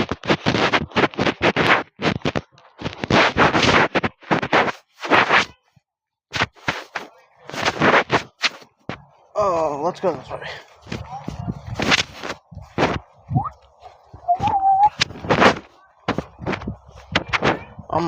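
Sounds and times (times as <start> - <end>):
rubbing on microphone: 0.0 - 5.6, 6.3 - 18.0.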